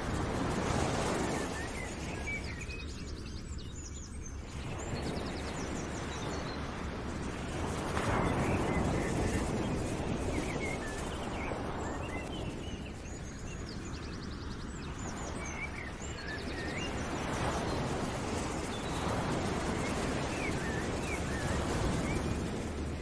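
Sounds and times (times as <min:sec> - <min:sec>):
steady rushing noise: 0:04.5 - 0:23.0.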